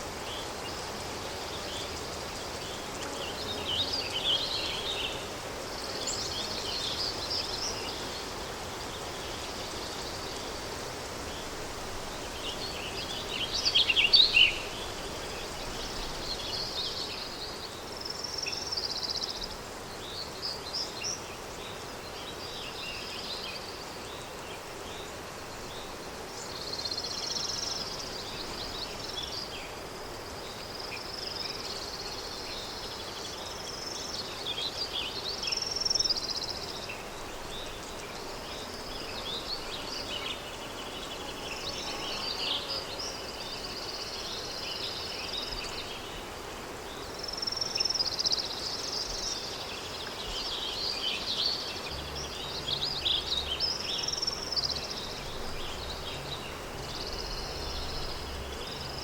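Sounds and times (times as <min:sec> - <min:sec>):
wind hiss: 0:00.0 - 0:59.0.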